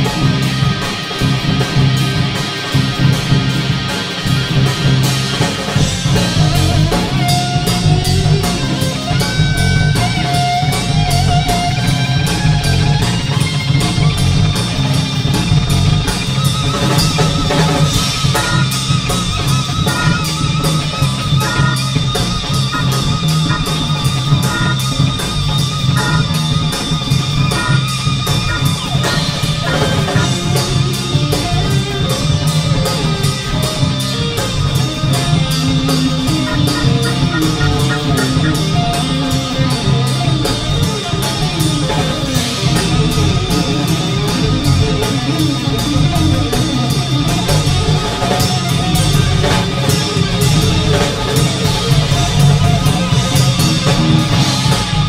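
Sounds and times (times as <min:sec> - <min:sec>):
drum kit: 0:00.0 - 0:55.0
electric bass: 0:00.0 - 0:55.0
electric guitar solo: 0:00.0 - 0:55.0.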